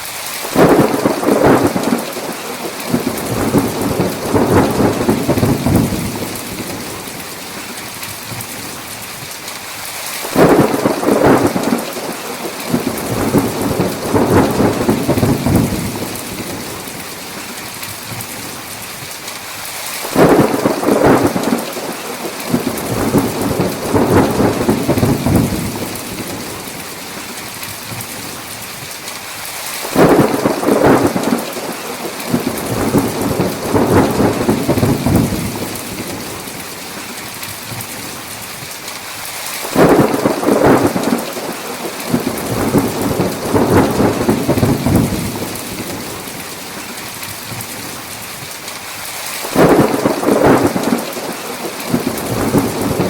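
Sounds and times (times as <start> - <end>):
heavy rain: 0.0 - 53.0
thunder rumbling: 0.4 - 8.4, 10.2 - 18.6, 20.0 - 27.3, 29.8 - 36.9, 39.6 - 47.9, 49.4 - 53.0.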